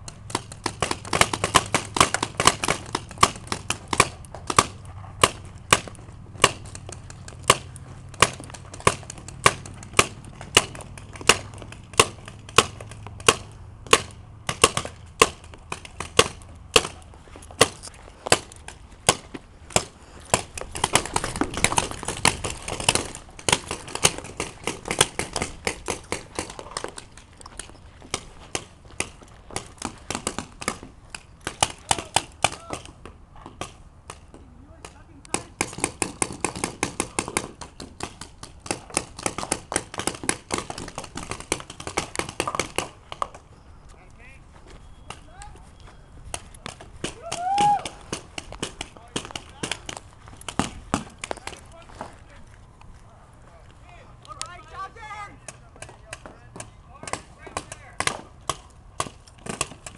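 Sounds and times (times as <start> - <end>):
paintball markers firing: 0.0 - 43.5, 46.3 - 51.8, 55.4 - 59.9.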